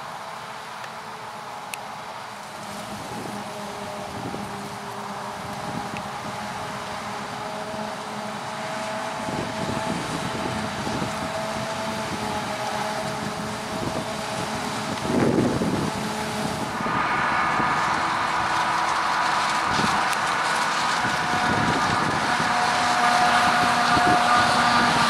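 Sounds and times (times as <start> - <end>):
forage harvester machine drone: 0.0 - 25.0
high machine whine: 0.0 - 25.0.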